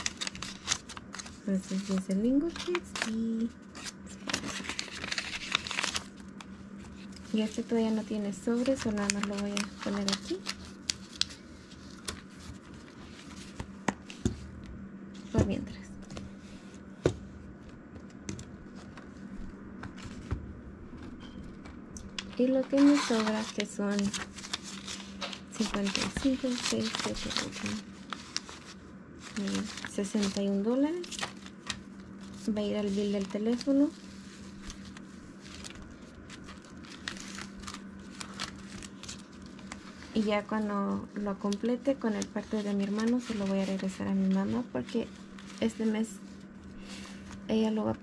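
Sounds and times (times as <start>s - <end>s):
paper and plastic crinkling: 0.0s - 14.5s, 18.0s - 47.6s
steady low hum: 0.0s - 48.0s.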